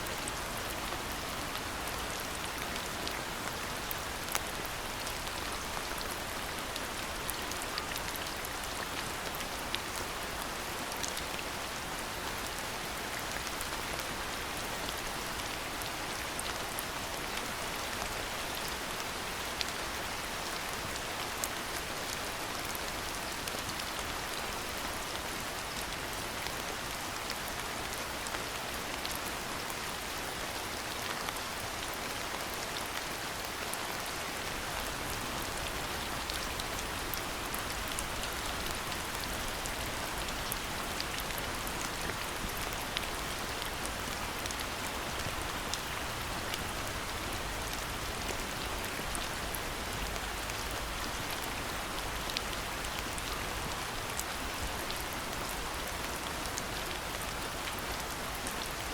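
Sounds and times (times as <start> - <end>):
steady rainfall hiss: 0.0 - 58.9.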